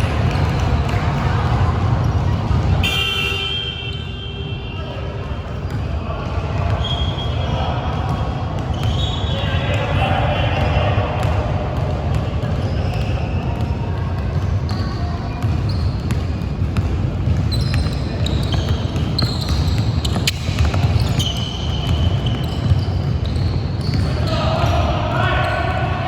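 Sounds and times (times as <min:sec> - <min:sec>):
basketball bouncing on court: 0:00.0 - 0:26.0
low hubbub of hall: 0:00.0 - 0:26.0
sneakers squeaking: 0:00.0 - 0:26.0.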